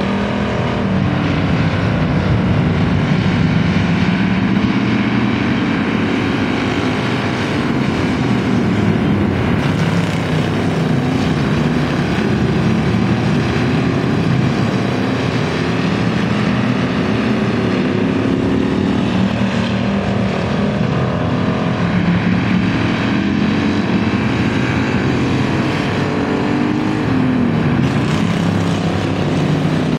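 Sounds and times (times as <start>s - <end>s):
stock car engines racing: 0.0s - 29.9s.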